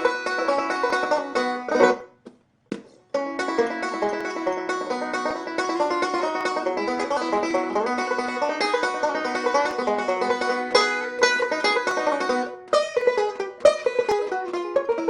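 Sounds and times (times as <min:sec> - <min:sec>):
banjo picked fast: 0:00.0 - 0:02.2, 0:03.1 - 0:15.0.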